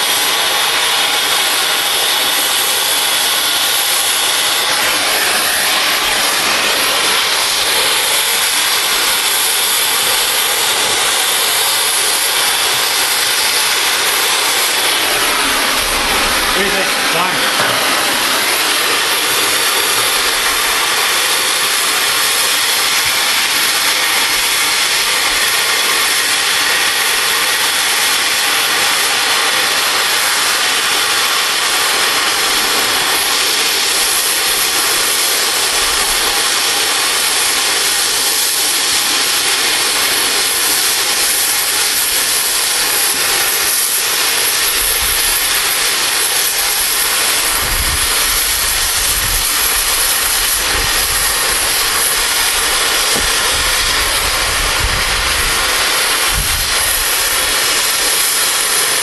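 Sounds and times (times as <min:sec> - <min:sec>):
cutting torch hissing: 0:00.0 - 0:59.0.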